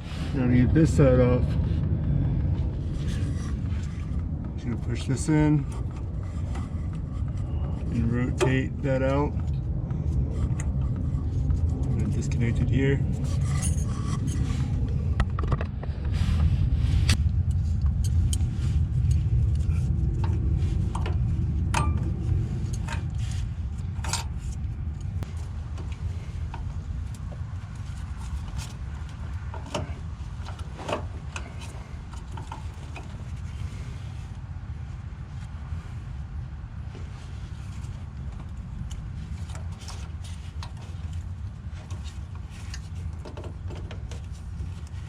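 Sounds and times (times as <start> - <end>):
low rumble: 0.0 - 45.0.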